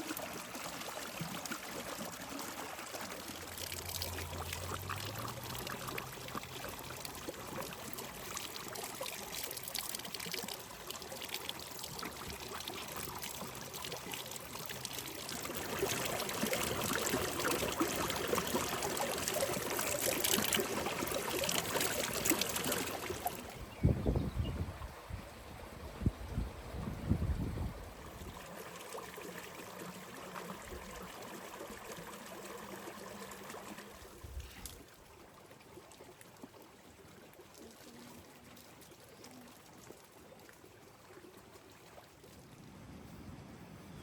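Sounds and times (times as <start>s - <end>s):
water trickling and splashing: 0.0s - 43.4s.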